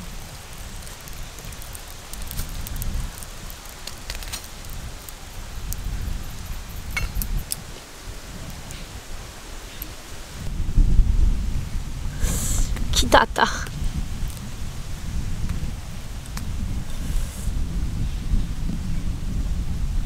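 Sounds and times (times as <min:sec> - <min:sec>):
crackles and scrapes of burnt husk: 0:00.0 - 0:19.8.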